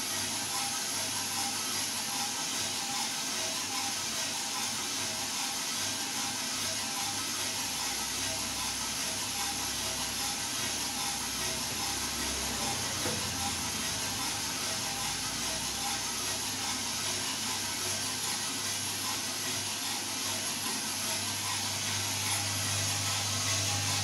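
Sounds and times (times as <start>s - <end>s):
coffee roaster hiss and whir: 0.0s - 24.0s.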